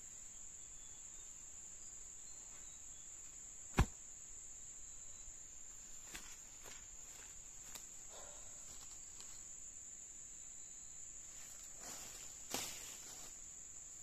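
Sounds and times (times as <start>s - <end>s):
forest insects droning: 0.0s - 14.0s.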